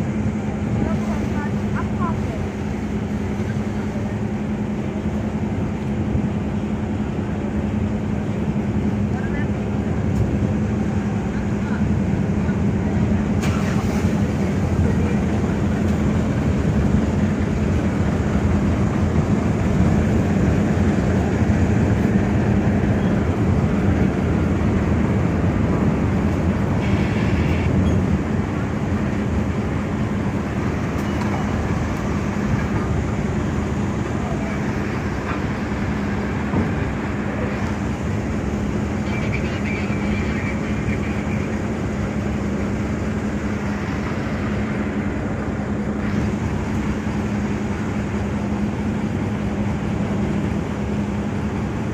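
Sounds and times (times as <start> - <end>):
ship engine droning: 0.0 - 51.9.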